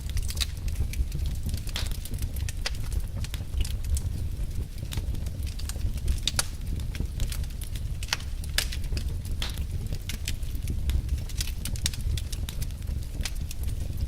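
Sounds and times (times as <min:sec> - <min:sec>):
fire low rumble: 0:00.0 - 0:14.0
fire pops: 0:00.0 - 0:14.0
wood fire crackling: 0:00.0 - 0:14.0.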